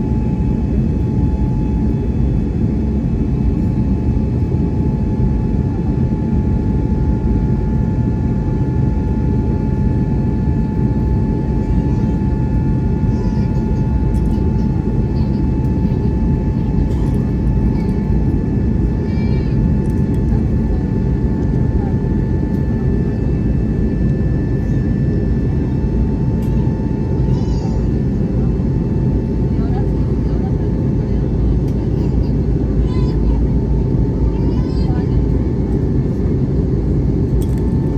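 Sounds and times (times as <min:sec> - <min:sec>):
aircraft cabin engine rumble: 0:00.0 - 0:37.9.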